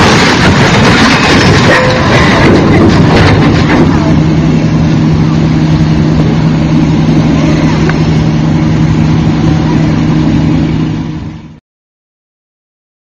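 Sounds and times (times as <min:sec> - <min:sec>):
large engine rumbling: 0:00.0 - 0:11.6.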